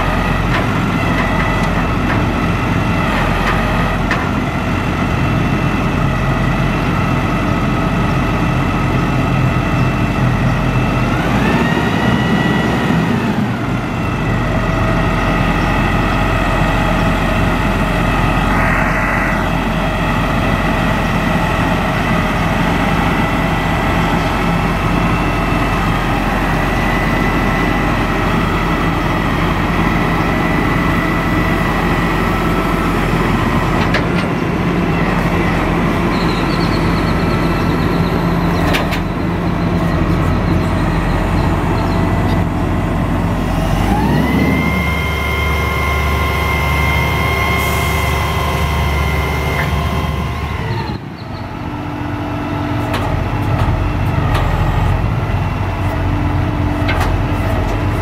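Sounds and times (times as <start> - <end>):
diesel truck engine running: 0.0 - 58.0
hydraulic whine: 10.8 - 58.0.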